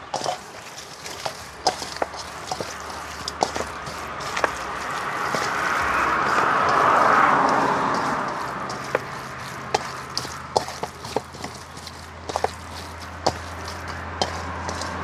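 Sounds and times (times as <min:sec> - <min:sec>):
vehicle passing: 0:00.0 - 0:15.0.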